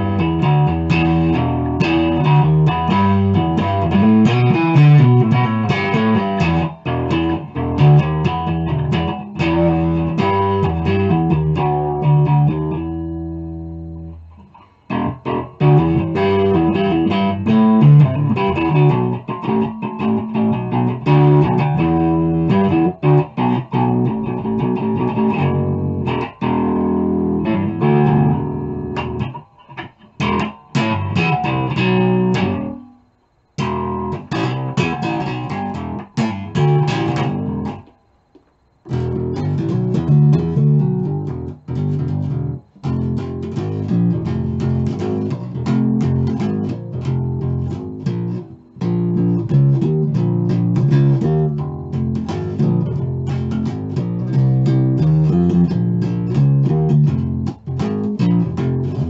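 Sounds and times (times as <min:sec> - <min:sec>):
electric bass guitar notes: 0:00.0 - 0:59.0.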